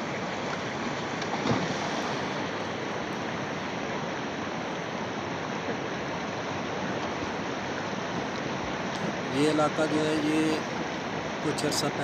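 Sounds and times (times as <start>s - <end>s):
river water rushing over dam: 0.0s - 12.0s.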